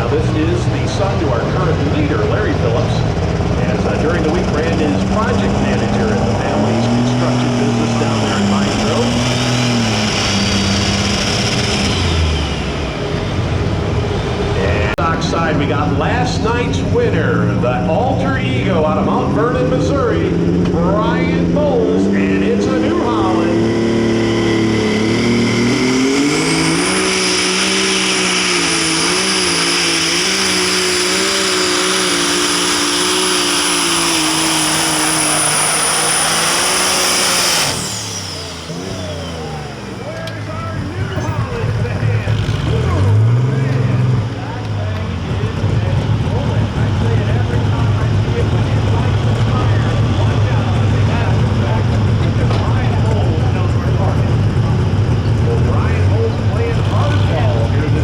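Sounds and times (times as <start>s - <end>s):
high turbo whine: 0.0s - 58.0s
loud diesel engine running: 0.0s - 58.0s.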